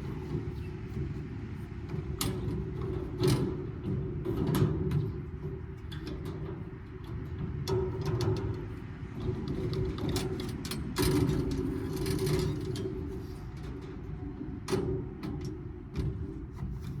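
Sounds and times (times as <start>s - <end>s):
scrap metal clanking and rattling: 1.9s - 17.0s.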